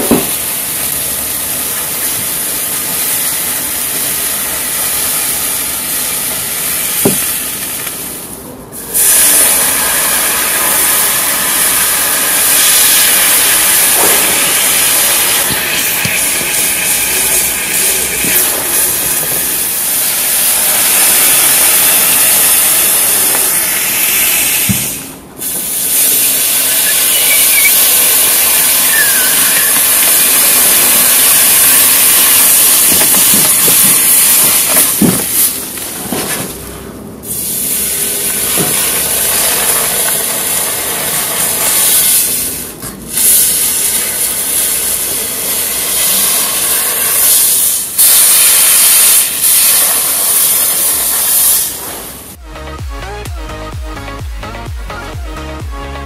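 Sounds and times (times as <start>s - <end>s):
hot knife hissing and sizzling: 0.0s - 8.2s, 8.8s - 36.0s, 37.2s - 52.4s.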